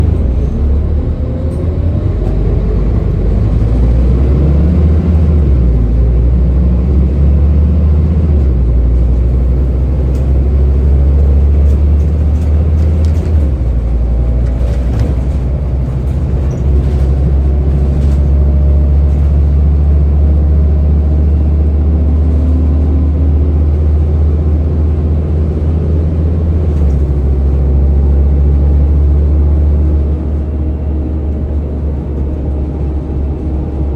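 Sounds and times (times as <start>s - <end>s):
bus diesel engine rumble: 0.0s - 33.9s.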